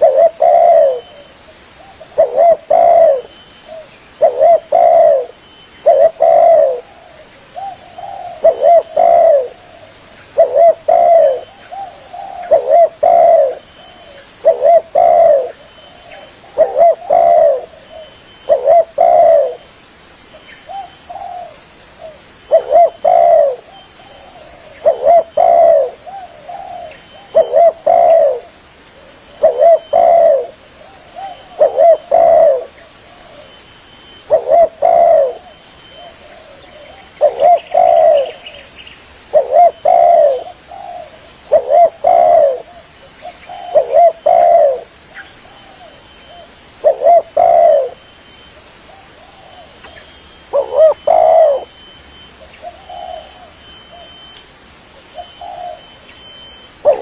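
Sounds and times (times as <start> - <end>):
dove cooing: 0.0 - 19.7, 20.6 - 38.7, 39.3 - 57.0.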